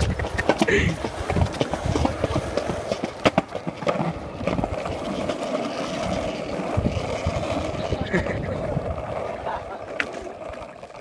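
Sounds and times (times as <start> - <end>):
people running on pavement: 0.0 - 11.0.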